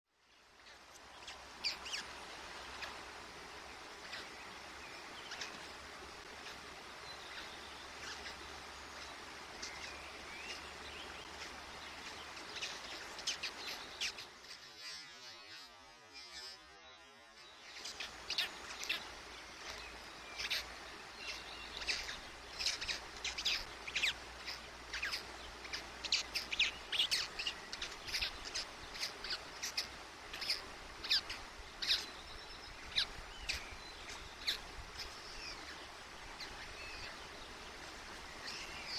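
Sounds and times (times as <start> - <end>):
faint outdoor background noise: 0.1 - 38.9
small birds chirping: 0.1 - 38.9.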